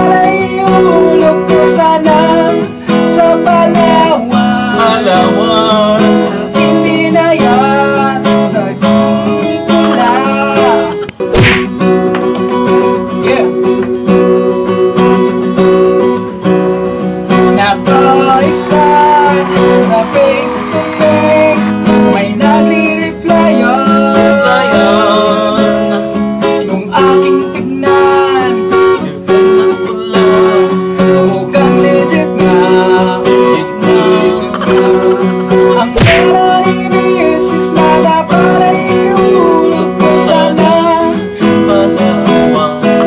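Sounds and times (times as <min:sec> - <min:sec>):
man singing: 0:00.0 - 0:11.2, 0:17.4 - 0:43.0
acoustic guitar strumming: 0:00.0 - 0:43.0.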